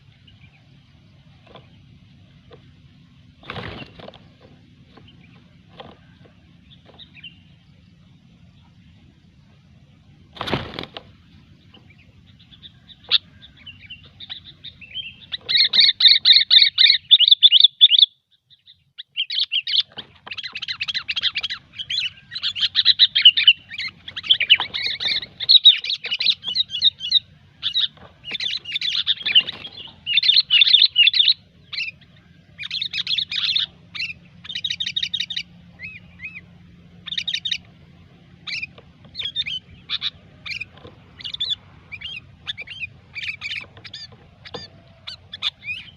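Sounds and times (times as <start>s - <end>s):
bulbul chattering: 0.0s - 45.9s.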